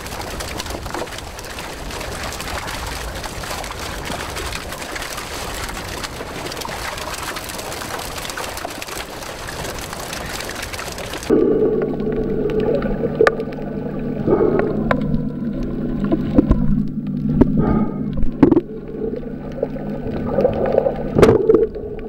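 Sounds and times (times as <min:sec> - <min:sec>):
water splashing: 0:00.0 - 0:22.0.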